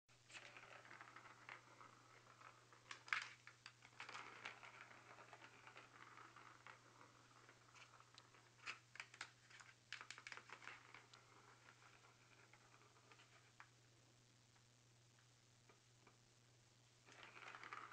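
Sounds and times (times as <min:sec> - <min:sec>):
ball rolling in plastic track: 0:00.2 - 0:13.8, 0:17.0 - 0:17.9.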